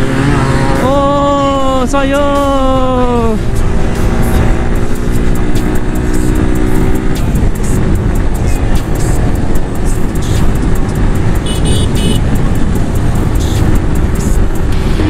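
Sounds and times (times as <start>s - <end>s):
motorcycle engine riding along: 0.0s - 15.0s.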